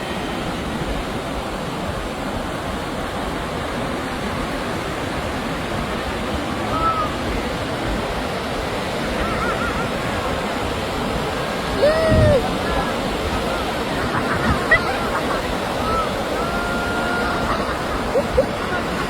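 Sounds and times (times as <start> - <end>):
sea surf breaking on shore: 0.0 - 19.0.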